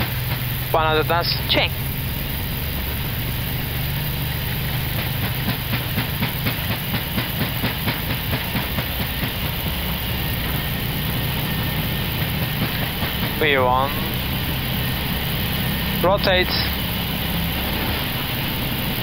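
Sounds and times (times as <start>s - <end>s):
jet engine roar: 0.0s - 19.0s
low hum: 0.0s - 19.0s
wheels thumping on runway: 0.0s - 19.0s.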